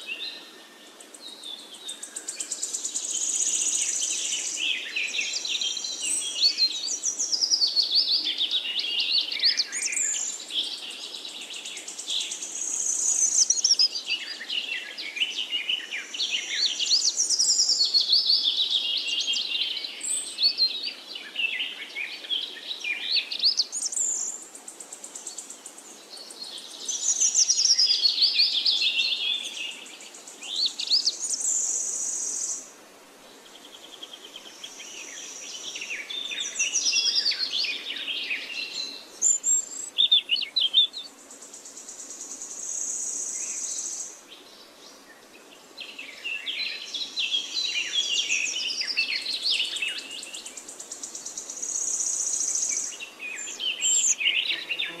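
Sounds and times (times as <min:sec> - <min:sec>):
robin singing: 0:01.1 - 0:24.5, 0:25.1 - 0:32.7, 0:33.5 - 0:55.0.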